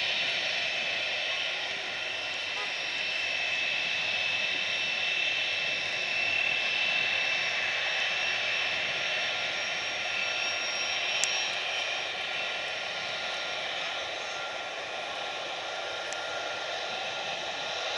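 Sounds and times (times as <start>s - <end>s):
jet engines whining: 0.0s - 17.9s.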